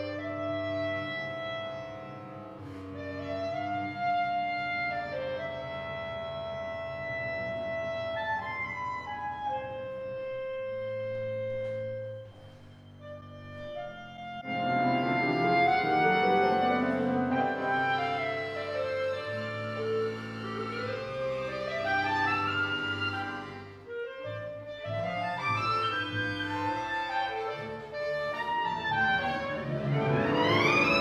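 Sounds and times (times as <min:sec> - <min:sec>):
chamber ensemble accompaniment: 0:00.0 - 0:31.0
clarinet playing long notes: 0:00.0 - 0:31.0.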